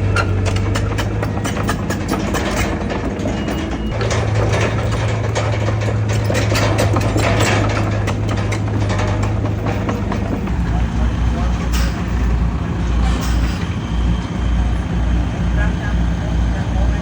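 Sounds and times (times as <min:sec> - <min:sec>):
rapid metallic clatter: 0:00.0 - 0:13.8
heavy diesel machinery running: 0:00.0 - 0:17.0.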